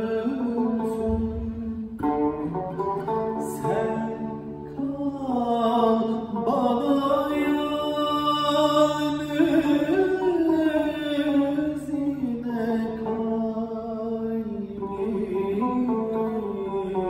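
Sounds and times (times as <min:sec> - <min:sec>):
man singing: 0:00.0 - 0:17.0
plucked lute: 0:00.0 - 0:17.0.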